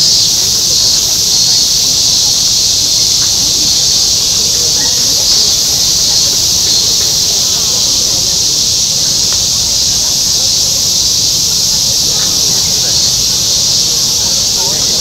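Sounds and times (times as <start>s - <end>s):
cicadas chorus: 0.0s - 15.0s
murmur of crowd chatter: 0.0s - 15.0s.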